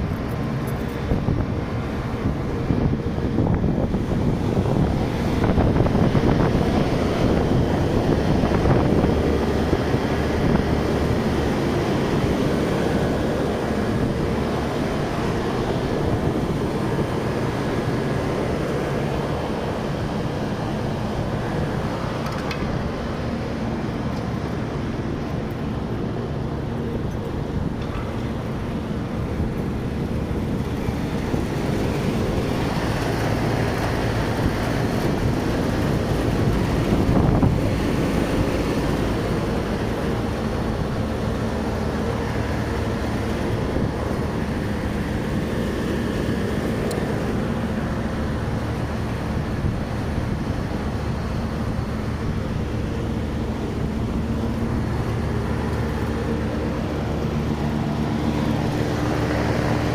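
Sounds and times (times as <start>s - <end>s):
air-conditioning unit humming: 0.0s - 59.9s.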